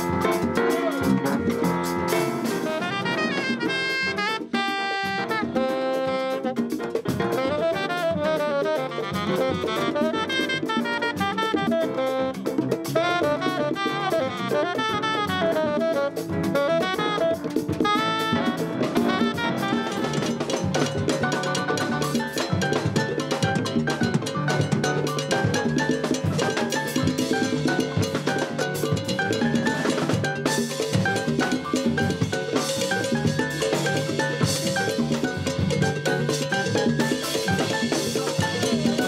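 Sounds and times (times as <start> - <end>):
latin jazz band playing: 0.0 - 39.0.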